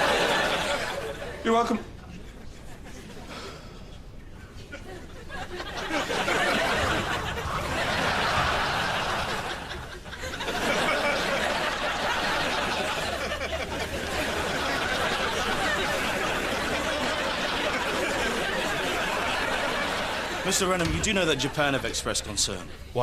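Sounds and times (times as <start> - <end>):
studio audience laughing: 0.0 - 3.7, 4.6 - 22.0.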